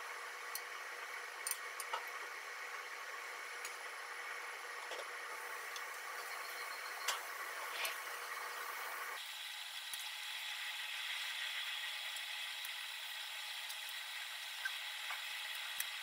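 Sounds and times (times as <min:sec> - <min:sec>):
frying pan sizzling: 0:00.0 - 0:16.0.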